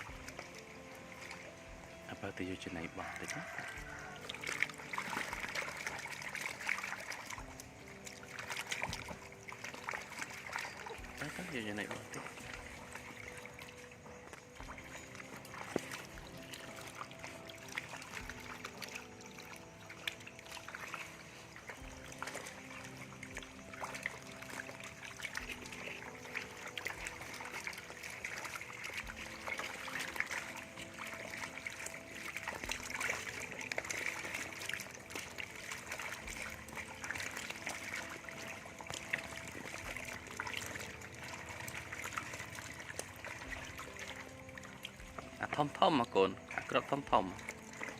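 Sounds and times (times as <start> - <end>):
small splashes and clicks: 0.0 - 47.9
water trickling: 0.0 - 47.9.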